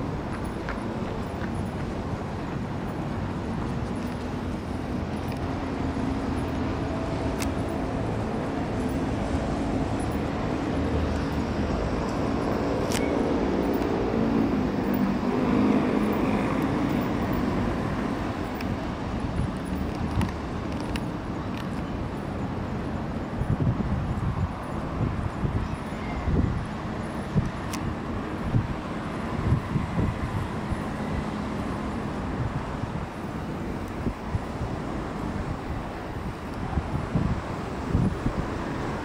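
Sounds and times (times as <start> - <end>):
city road traffic: 0.0 - 39.0
vehicle engine hum: 0.0 - 39.0.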